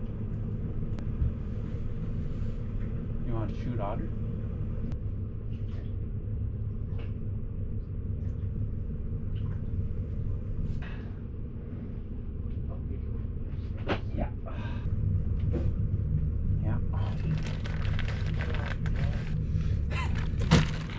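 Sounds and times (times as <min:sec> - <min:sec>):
boat motor rumbling: 0:00.0 - 0:20.9.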